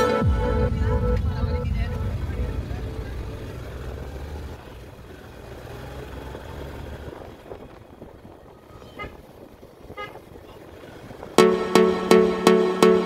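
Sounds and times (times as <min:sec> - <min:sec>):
motorcycle engine and road noise: 0:00.0 - 0:12.4.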